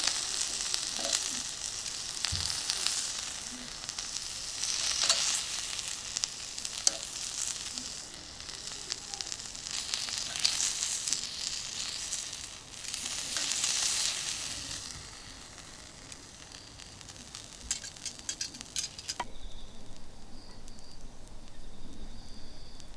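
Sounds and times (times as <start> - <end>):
meat sizzling on a griddle: 0.0 - 19.3
sharp crackles and pops: 0.0 - 22.9.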